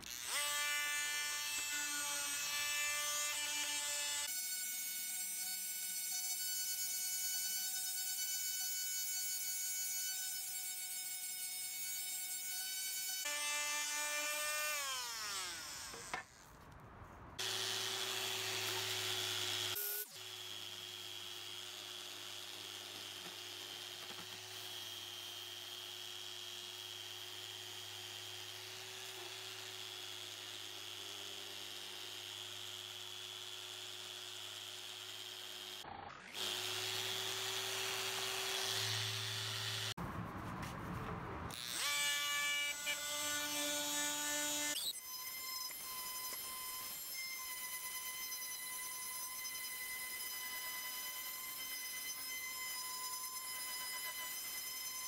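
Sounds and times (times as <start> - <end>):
multi-tool whining: 0.0 - 16.6, 17.4 - 40.0, 41.5 - 55.0.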